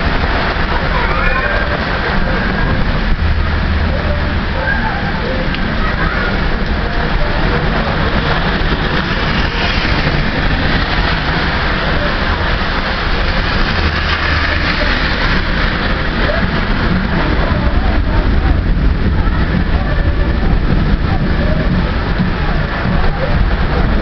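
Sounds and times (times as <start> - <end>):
heavy rain rushing: 0.0 - 24.0
low thunder rumble: 0.0 - 24.0.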